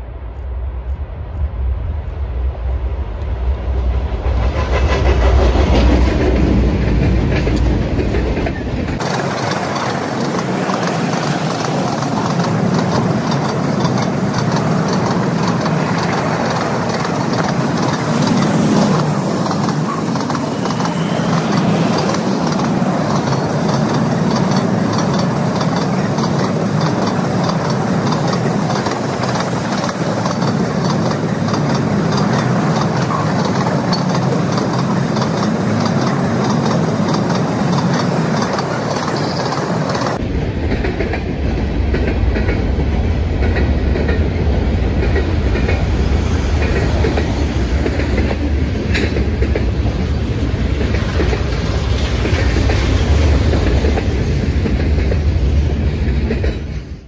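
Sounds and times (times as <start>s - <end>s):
deep locomotive engine rumble: 0.0s - 57.0s
train wheels clattering on rails: 4.2s - 57.0s.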